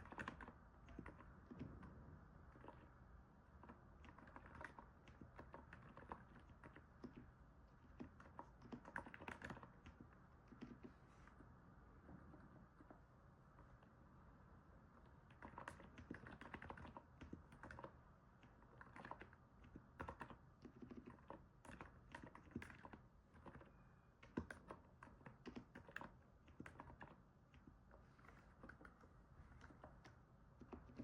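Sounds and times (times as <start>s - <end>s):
soft keyboard typing: 0.0s - 11.4s, 14.9s - 31.0s.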